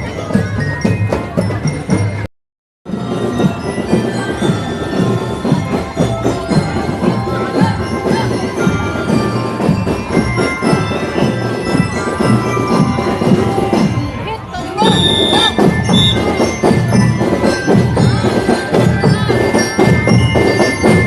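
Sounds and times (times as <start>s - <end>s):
ringing bell melody: 2.9s - 21.0s
steady drum beat: 2.9s - 21.0s.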